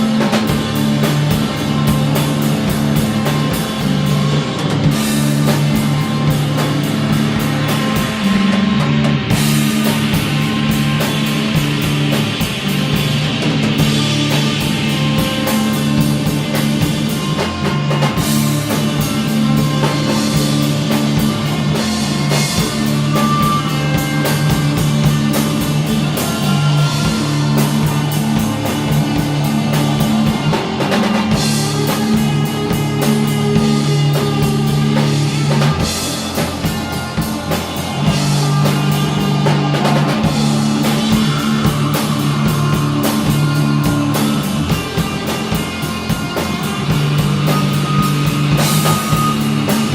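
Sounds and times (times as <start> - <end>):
drum kit steady beat: 0.0 - 49.9
electric guitars sustained notes: 0.0 - 49.9.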